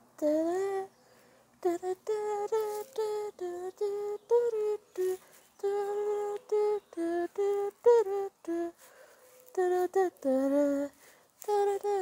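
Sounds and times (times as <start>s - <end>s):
person singing da da syllables: 0.0s - 1.0s, 1.6s - 12.0s.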